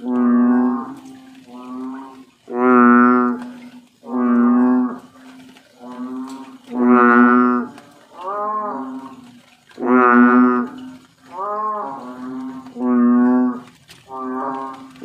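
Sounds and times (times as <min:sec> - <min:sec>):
bullfrog calling with moos: 0:00.0 - 0:15.0.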